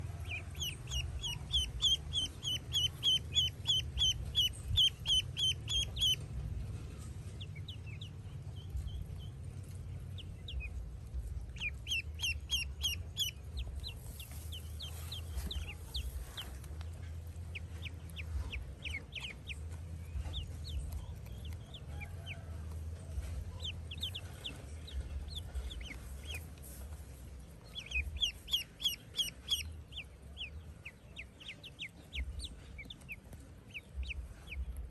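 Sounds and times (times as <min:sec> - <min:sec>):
ducklings peeping: 0:00.0 - 0:34.9
low steady rumble: 0:00.0 - 0:34.9.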